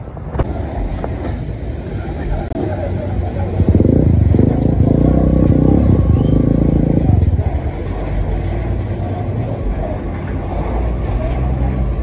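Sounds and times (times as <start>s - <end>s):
motor humming: 0.5s - 12.0s.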